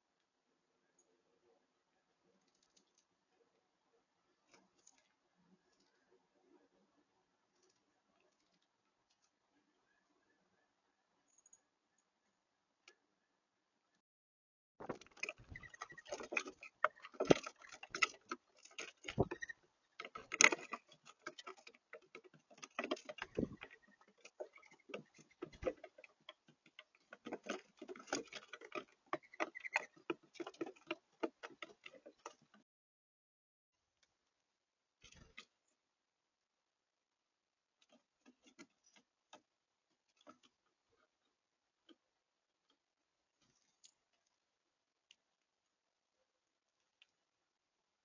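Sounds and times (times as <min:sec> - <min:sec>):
birds pecking at a feeder: 0:00.0 - 0:13.1, 0:14.8 - 0:32.6, 0:35.0 - 0:35.8, 0:37.5 - 0:48.0.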